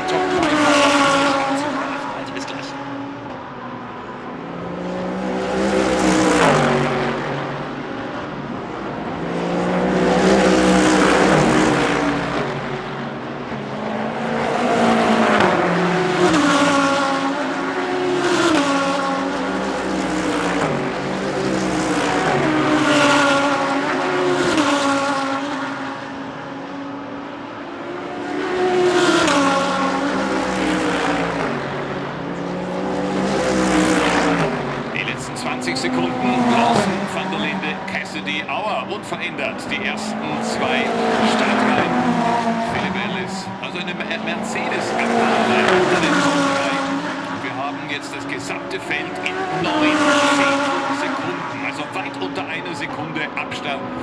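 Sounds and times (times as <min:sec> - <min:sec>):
race cars passing at speed: 0:00.0 - 0:54.0.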